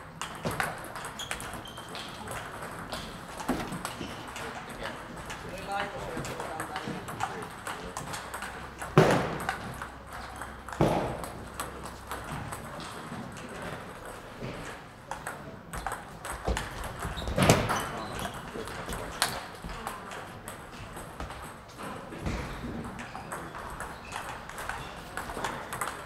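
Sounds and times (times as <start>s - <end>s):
table tennis balls clicking: 0.0s - 26.0s.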